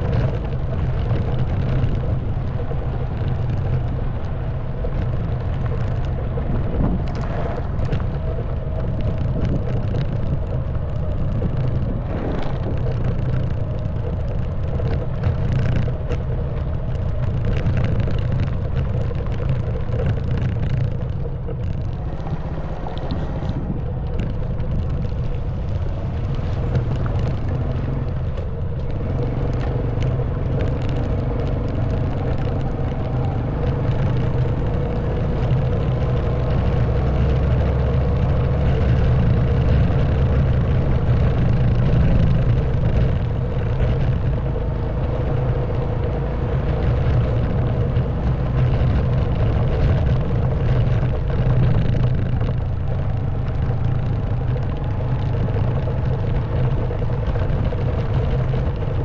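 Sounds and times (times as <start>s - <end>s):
scooter engine running: 0.0s - 59.0s
wind on microphone: 0.0s - 59.0s.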